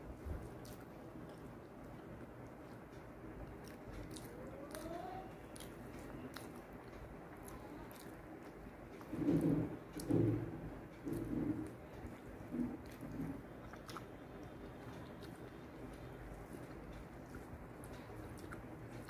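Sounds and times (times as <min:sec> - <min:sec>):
quiet chewing: 0:00.2 - 0:19.0.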